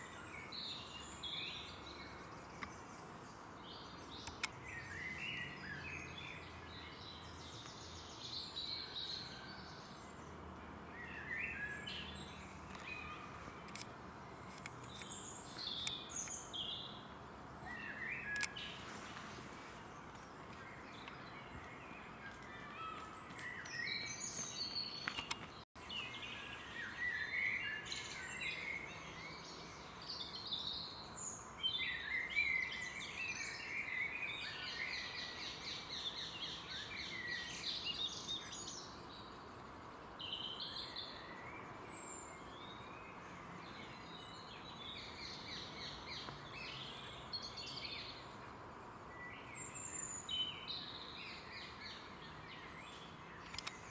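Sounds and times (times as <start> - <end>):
faint steady hiss: 0.0 - 53.9
songbirds singing and chirping: 0.0 - 53.9.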